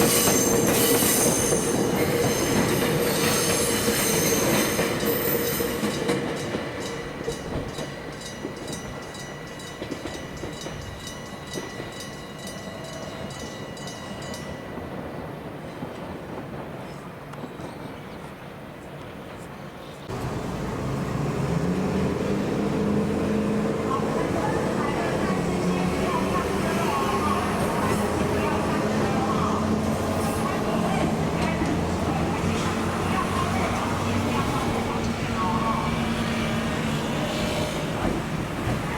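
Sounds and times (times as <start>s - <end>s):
train running on rails: 0.0s - 38.9s.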